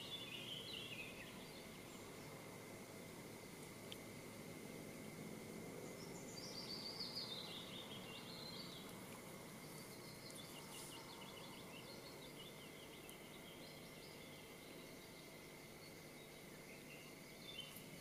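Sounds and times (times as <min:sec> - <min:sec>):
faint outdoor background noise: 0:00.0 - 0:18.0
songbird singing: 0:00.0 - 0:18.0.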